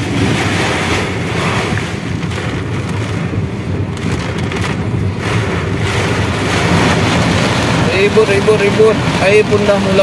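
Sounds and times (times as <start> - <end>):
gusting storm wind: 0.0 - 10.0
heavy rain beating on a car: 0.0 - 10.0.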